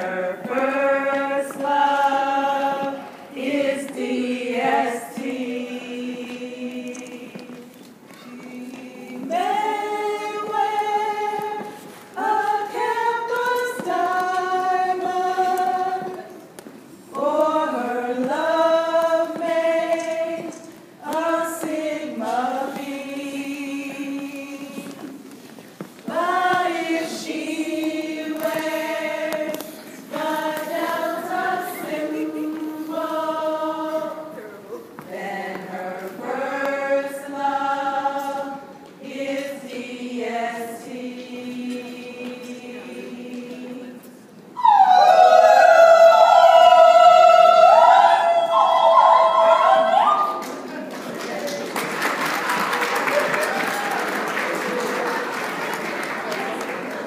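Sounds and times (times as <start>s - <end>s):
women singing unaccompanied: 0.0s - 16.5s, 17.1s - 25.2s, 26.0s - 50.4s.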